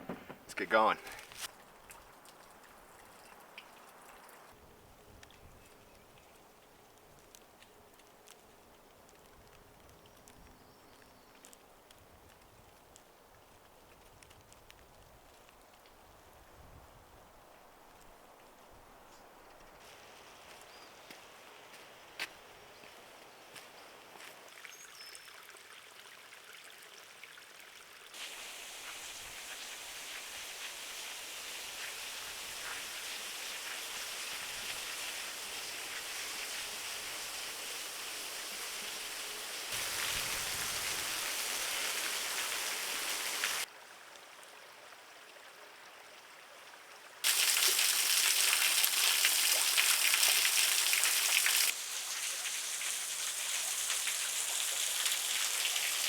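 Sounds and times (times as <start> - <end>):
stream trickling over rock: 0.7 - 15.8, 24.3 - 56.0.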